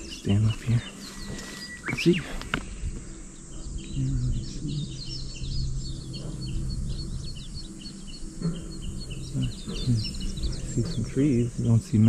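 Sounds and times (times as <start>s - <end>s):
birds chirping: 0.0s - 12.0s
low rumble: 2.0s - 12.0s.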